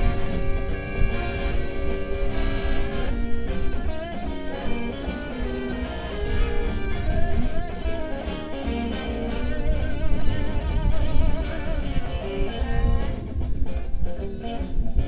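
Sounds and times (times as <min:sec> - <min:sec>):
blues band playing live: 0:00.0 - 0:15.0
electric guitar bent lead notes: 0:00.0 - 0:15.0.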